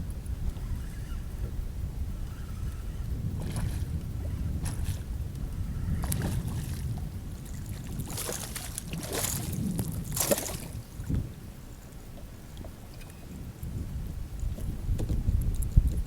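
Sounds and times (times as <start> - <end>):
wind rumble on microphone: 0.0 - 16.0
water splashing beside kayak: 0.4 - 13.5.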